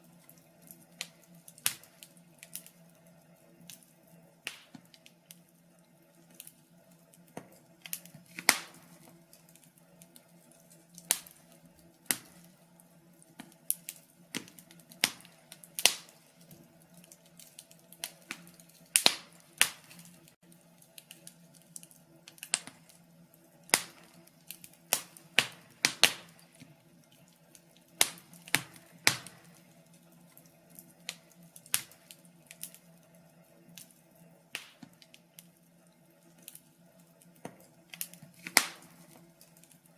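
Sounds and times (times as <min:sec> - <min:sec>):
wood fire crackling: 0:00.0 - 0:39.9
sharp pops from fire: 0:00.2 - 0:02.8, 0:03.7 - 0:05.4, 0:06.3 - 0:12.6, 0:13.2 - 0:23.0, 0:23.6 - 0:32.9, 0:34.5 - 0:35.5, 0:36.4 - 0:36.6, 0:37.2 - 0:39.8.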